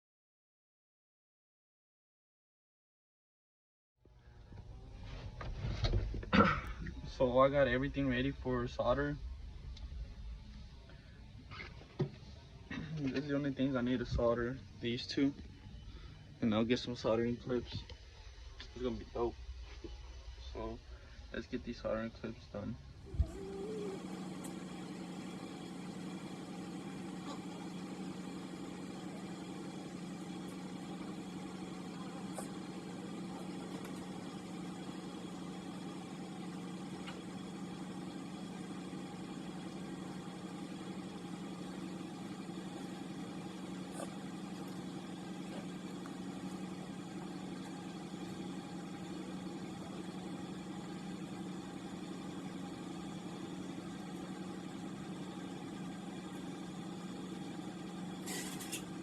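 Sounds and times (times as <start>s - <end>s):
low mechanical hum: 4.1s - 59.0s.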